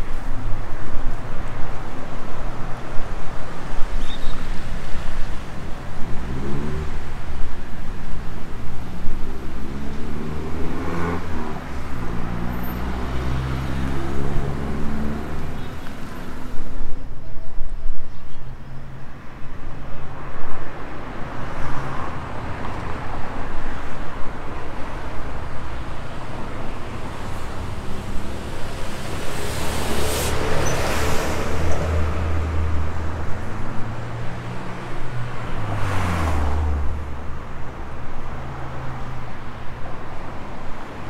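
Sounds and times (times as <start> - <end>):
street traffic: 0.0 - 41.0.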